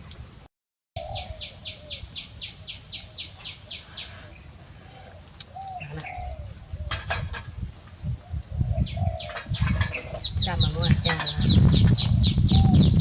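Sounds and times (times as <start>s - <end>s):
bird chirping: 1.0s - 7.0s, 8.3s - 13.0s
faint low bird calls: 1.0s - 13.0s.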